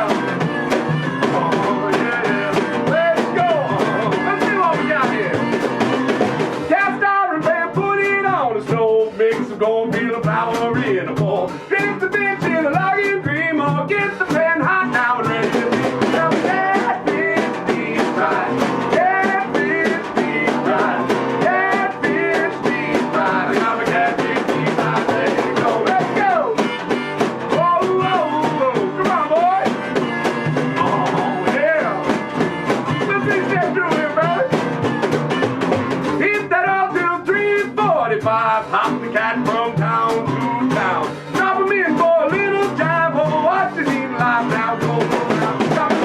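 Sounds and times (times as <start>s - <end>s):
folk-rock band playing: 0.0s - 46.0s
steady drum beat: 0.0s - 46.0s.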